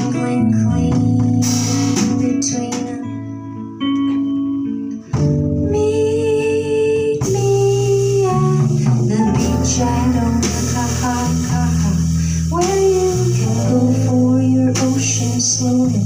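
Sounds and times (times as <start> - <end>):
woman singing: 0.0 - 3.6, 5.4 - 16.0
archtop guitar: 0.0 - 16.0
bass guitar: 0.0 - 16.0
drum kit: 0.0 - 16.0.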